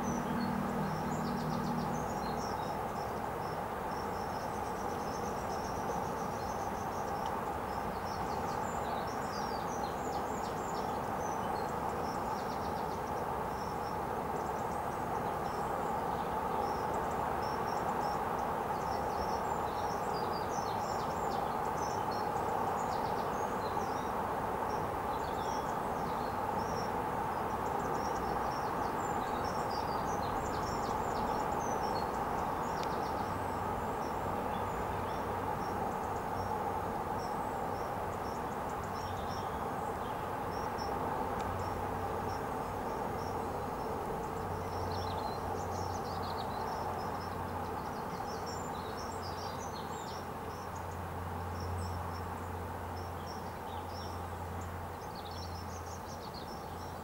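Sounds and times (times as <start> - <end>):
small birds chirping: 0.0 - 57.0
steady background noise: 0.0 - 57.0.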